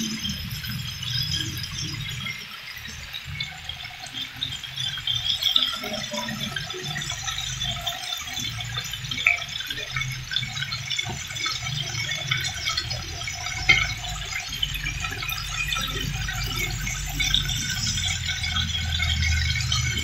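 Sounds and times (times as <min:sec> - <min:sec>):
oil popping: 0:00.0 - 0:20.0
oil sizzling in a frying pan: 0:00.0 - 0:20.0.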